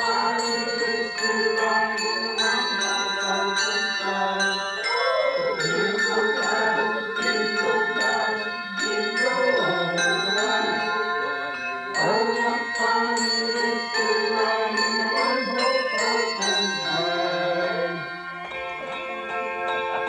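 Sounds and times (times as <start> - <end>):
bells ringing: 0.0 - 20.0.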